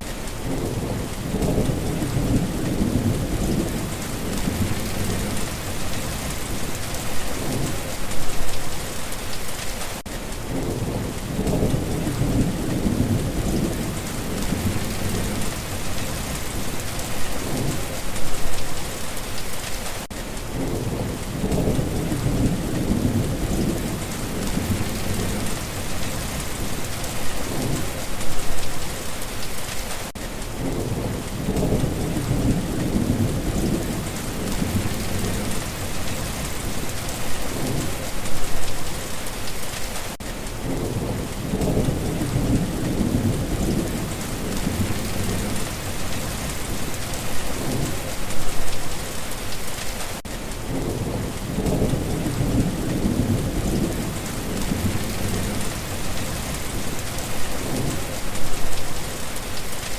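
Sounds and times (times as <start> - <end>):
heavy rain pattering: 0.0 - 59.9
thunder rumbling: 0.4 - 8.8, 10.4 - 19.1, 20.5 - 29.2, 30.6 - 38.8, 40.6 - 48.8, 50.6 - 59.4.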